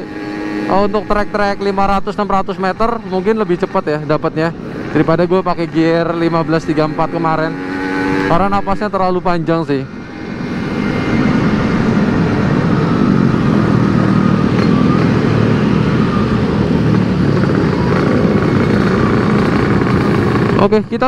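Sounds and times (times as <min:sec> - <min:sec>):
two-stroke motorcycle engine running: 0:00.0 - 0:09.3, 0:11.8 - 0:21.0.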